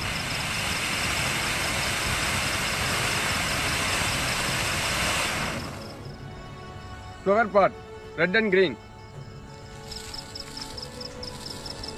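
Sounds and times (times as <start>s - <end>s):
fountain firework hissing: 0.0s - 8.7s, 9.7s - 11.9s
crickets chirping: 0.0s - 11.9s.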